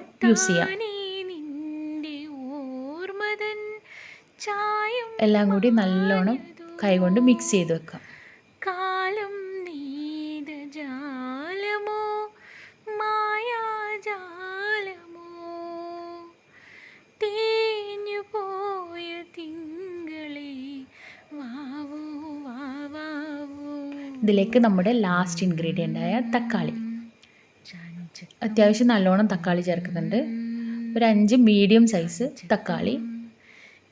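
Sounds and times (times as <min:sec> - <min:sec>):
woman singing unaccompanied: 0:00.0 - 0:16.5, 0:17.1 - 0:33.4.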